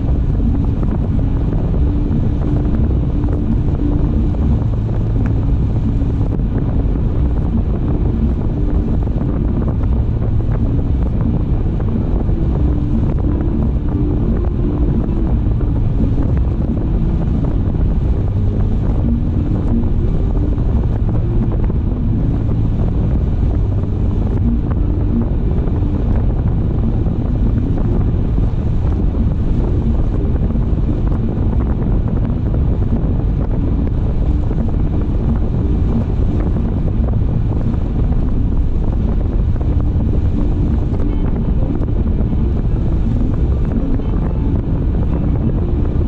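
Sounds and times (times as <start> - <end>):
tyres rumbling on road: 0.0 - 46.0
wind buffeting microphone: 0.0 - 46.0.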